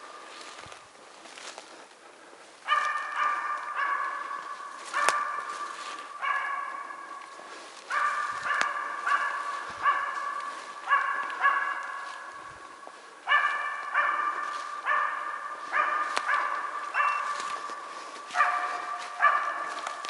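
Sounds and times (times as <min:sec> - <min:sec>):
dog barking in forest: 0:02.6 - 0:20.0.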